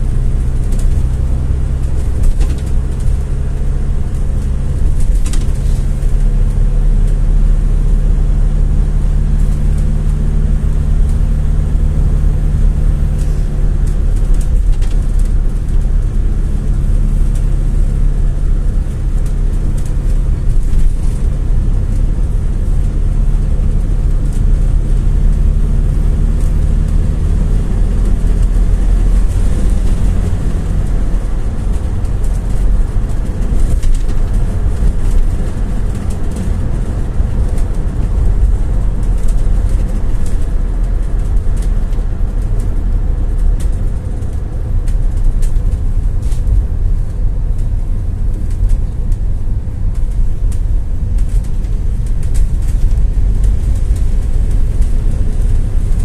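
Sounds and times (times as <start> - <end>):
low engine hum: 0.0 - 56.0
road noise: 0.0 - 56.0.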